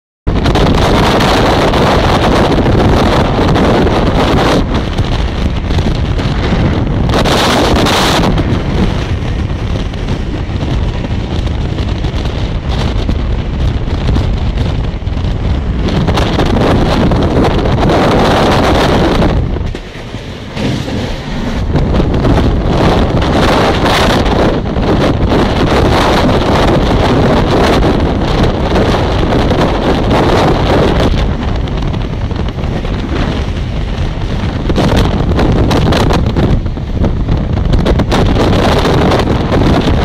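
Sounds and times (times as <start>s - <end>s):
wind buffeting microphone: 0.3s - 40.0s
express train running: 0.4s - 40.0s.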